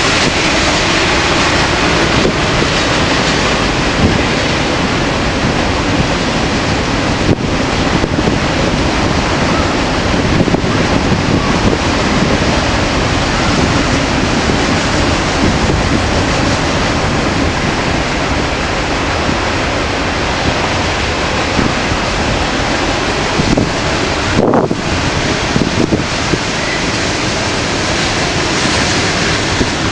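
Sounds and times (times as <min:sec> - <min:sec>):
freight train rumbling past: 0:00.0 - 0:29.9
wind buffeting the microphone: 0:00.0 - 0:29.9.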